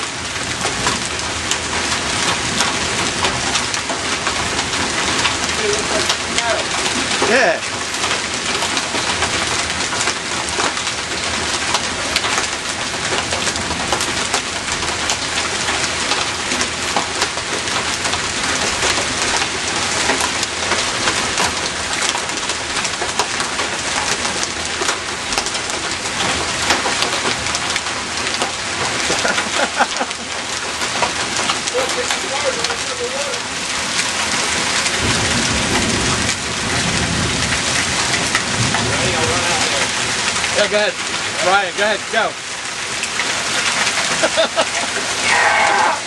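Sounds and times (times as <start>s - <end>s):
hail and rain pelting: 0.0s - 46.0s.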